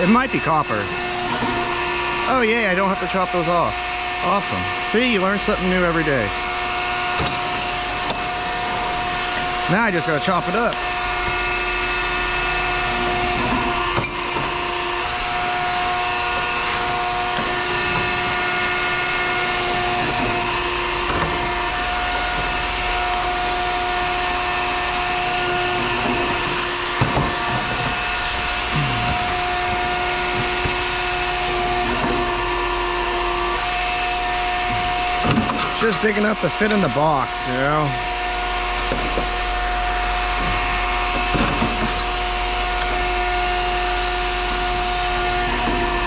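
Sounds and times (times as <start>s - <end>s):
metal-cutting tool whining: 0.0s - 46.0s.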